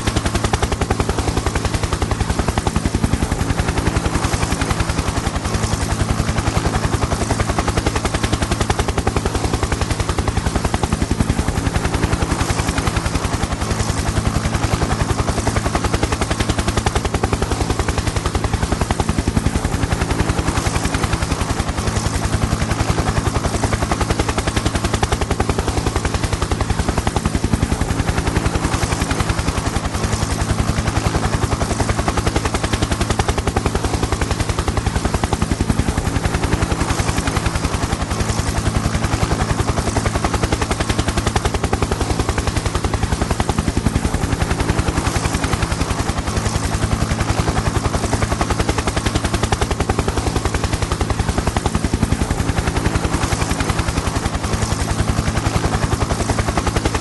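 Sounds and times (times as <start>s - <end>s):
helicopter rotor chopping: 0.0s - 57.0s.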